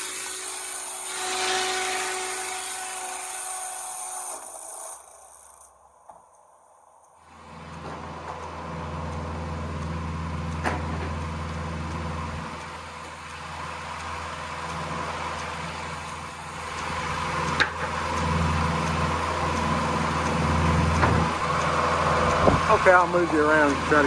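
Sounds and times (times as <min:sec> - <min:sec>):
sawmill edger running: 0:00.0 - 0:05.8, 0:07.3 - 0:24.0
tractor engine running: 0:04.5 - 0:24.0.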